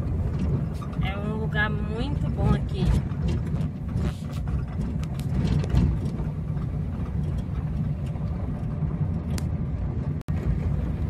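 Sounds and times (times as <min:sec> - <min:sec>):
light rattles: 0:00.0 - 0:11.0
vehicle rumbling along road: 0:00.0 - 0:11.0.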